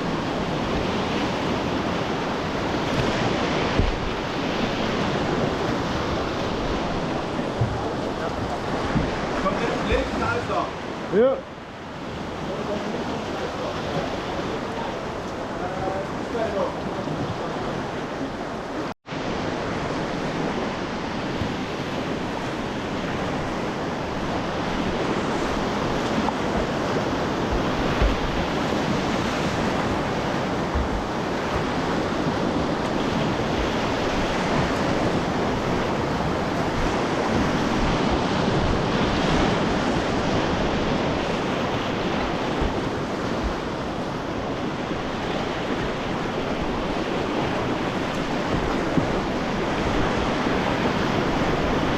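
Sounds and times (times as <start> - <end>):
river rapids rushing: 0.0 - 11.4, 12.0 - 51.9
wind on microphone: 0.0 - 51.9.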